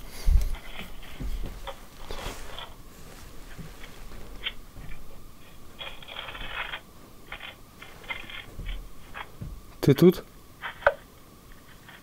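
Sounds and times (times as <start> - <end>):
handling rustles: 0.0 - 9.9
scratchy baby monitor noise: 0.0 - 12.0.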